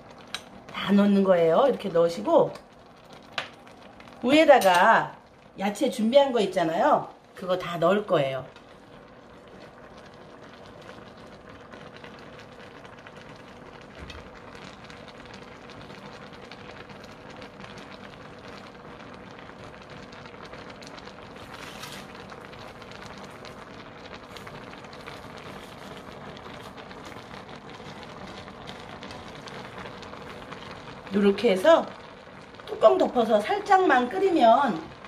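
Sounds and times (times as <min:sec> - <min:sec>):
broth simmering with bubbles: 0:00.0 - 0:35.0.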